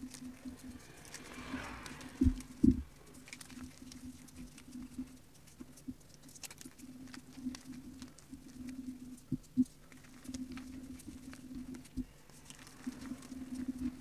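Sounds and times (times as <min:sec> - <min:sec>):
chalk pieces crackling and crumbling: 0:00.0 - 0:14.0.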